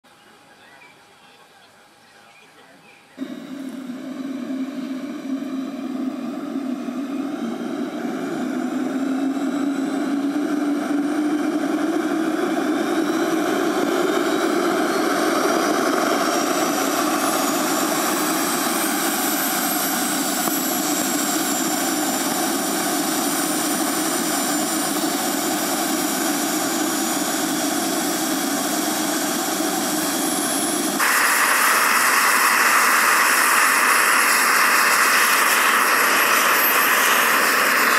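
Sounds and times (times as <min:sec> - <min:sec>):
model gas-turbine engine whine: 0:00.2 - 0:37.9.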